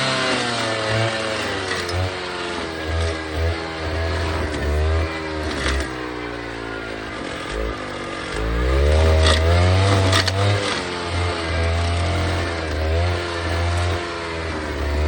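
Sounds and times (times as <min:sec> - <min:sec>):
stump grinder engine running: 0:00.0 - 0:15.0.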